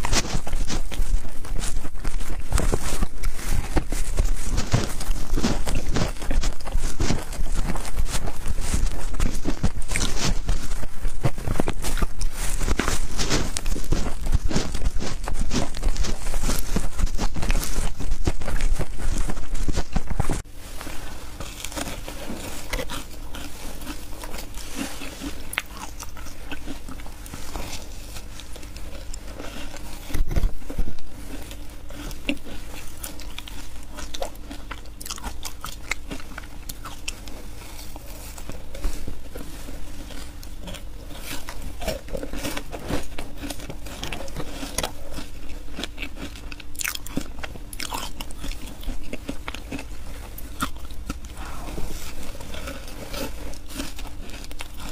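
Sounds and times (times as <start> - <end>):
crunching shaved ice: 0.0 - 54.9.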